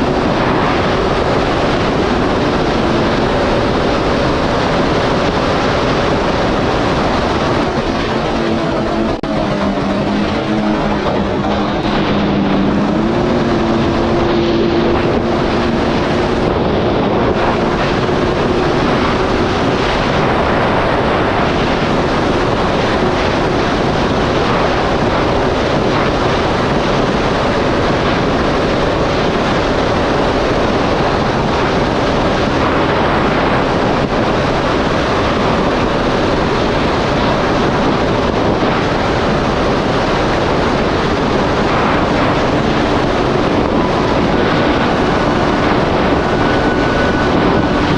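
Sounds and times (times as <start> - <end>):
jet ski engine: 0.0 - 47.9
water noise: 0.0 - 47.9
wind on microphone: 0.0 - 47.9.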